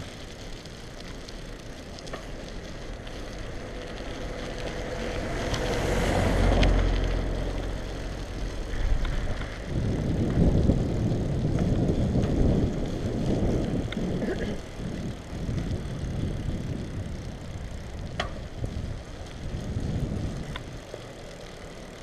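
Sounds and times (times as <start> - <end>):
bicycle tyres rumbling on asphalt: 0.0 - 22.0
wind buffeting microphone: 2.7 - 22.0.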